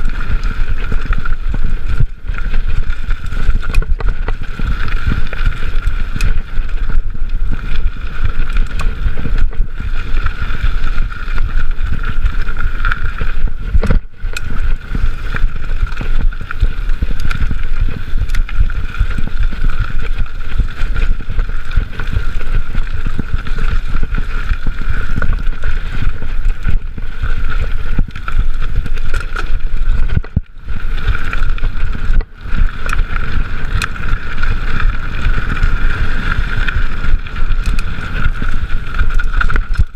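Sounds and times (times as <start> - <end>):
bike rattling: 0.0 - 39.9
tyre rumble: 0.0 - 39.9
wind rush: 0.0 - 39.9.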